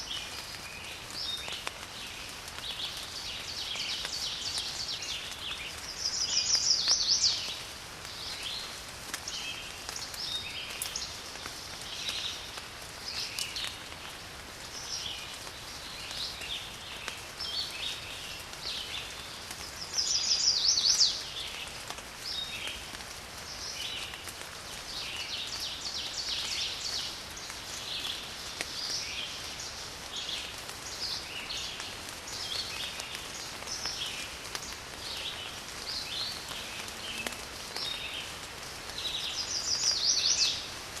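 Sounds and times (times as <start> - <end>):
small birds chirping: 0.0 - 40.8
light rain patter: 0.0 - 41.0.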